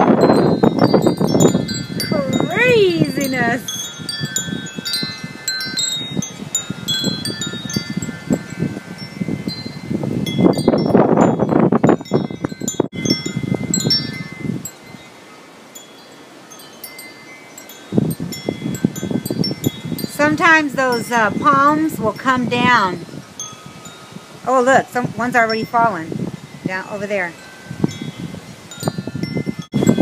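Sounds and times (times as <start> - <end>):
wind buffeting microphone: 0.0 - 15.2, 15.8 - 30.0
wind chimes ringing: 0.0 - 30.0.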